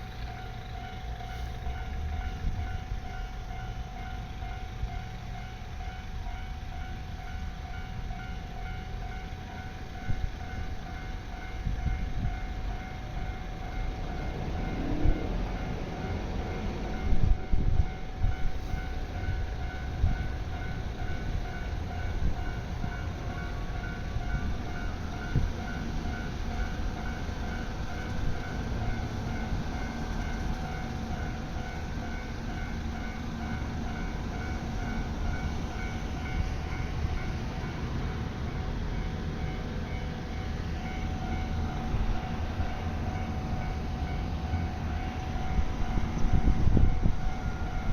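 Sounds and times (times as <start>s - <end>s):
level crossing warning bell: 0.0s - 47.9s
train rumbling with clacking wheels: 0.0s - 47.9s.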